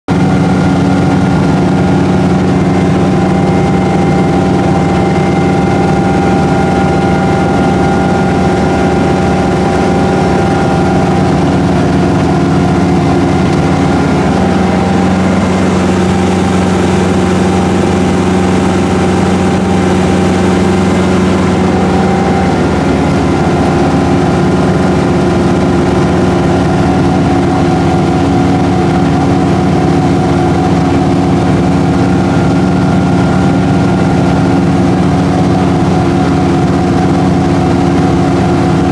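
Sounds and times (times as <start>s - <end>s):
boat engine running: 0.1s - 38.9s.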